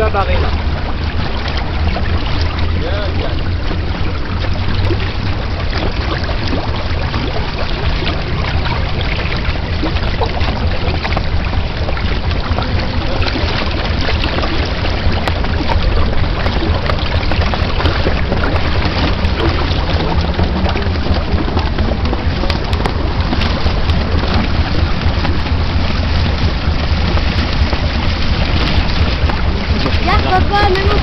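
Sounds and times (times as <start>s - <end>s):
water rushing along a hull: 0.0s - 31.0s
wind rumble on microphone: 0.0s - 31.0s.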